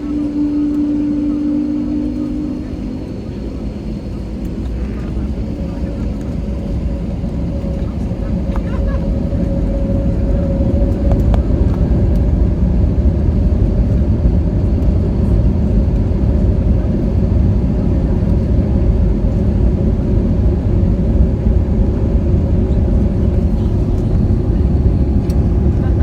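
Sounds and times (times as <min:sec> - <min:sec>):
aircraft engines rumbling in cabin: 0:00.0 - 0:26.0.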